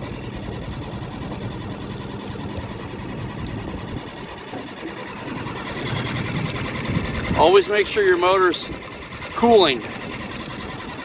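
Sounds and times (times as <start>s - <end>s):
outboard motor puttering: 0.0s - 11.0s.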